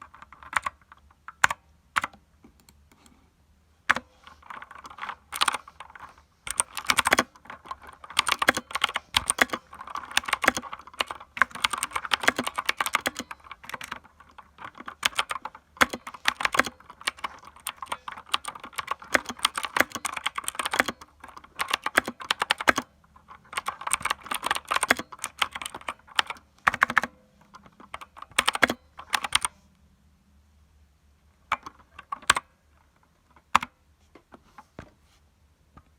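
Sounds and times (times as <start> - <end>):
mechanical keyboard typing: 0.0 - 3.1, 3.9 - 29.5, 31.5 - 33.8.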